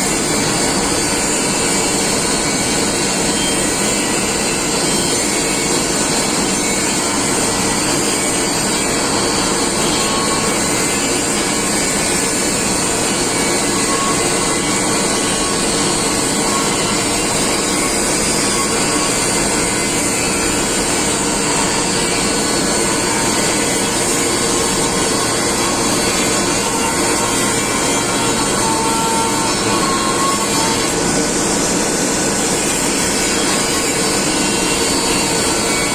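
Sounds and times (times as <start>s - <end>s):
loud machinery noise: 0.0s - 35.9s.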